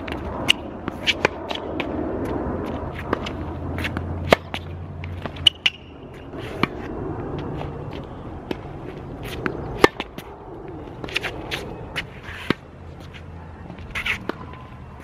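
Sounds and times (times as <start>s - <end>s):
tennis balls struck and bouncing: 0.0s - 15.0s.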